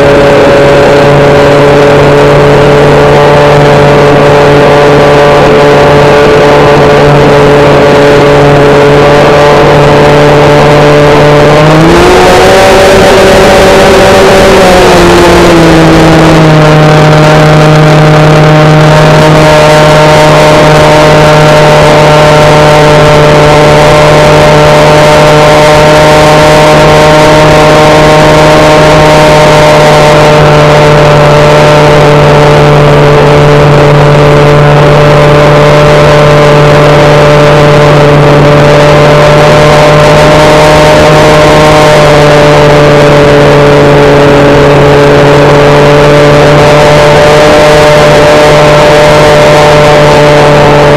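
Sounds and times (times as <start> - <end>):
electric motor and propeller droning: 0.0 - 50.9
wind rush on microphone: 0.0 - 50.9.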